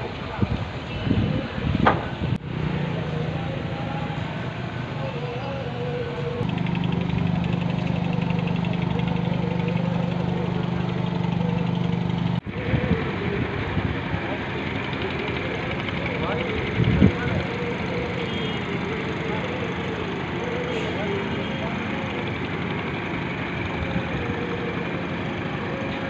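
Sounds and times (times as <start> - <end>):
engine idling: 2.3 - 26.0.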